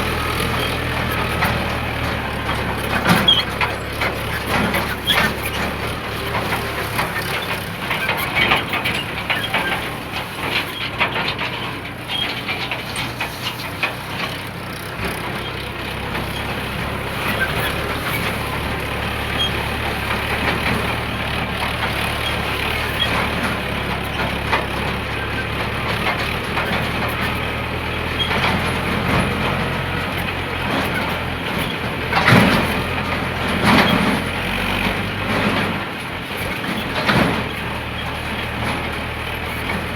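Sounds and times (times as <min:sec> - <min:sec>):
rattling: 0:00.0 - 0:35.8
diesel tractor engine running: 0:00.0 - 0:39.9.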